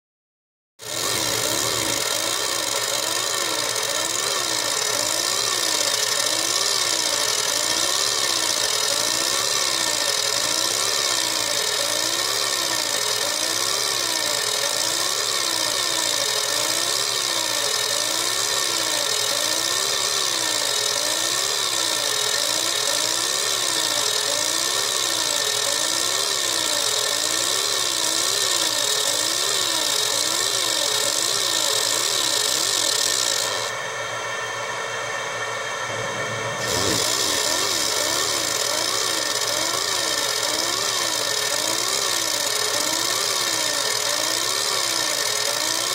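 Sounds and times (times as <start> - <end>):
engraving machine motors whining: 0.8 - 33.9, 35.8 - 45.9.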